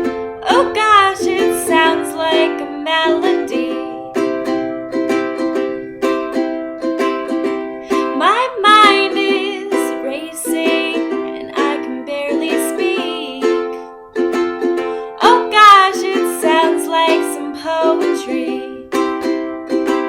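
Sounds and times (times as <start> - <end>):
ukulele strumming: 0.0 - 20.0.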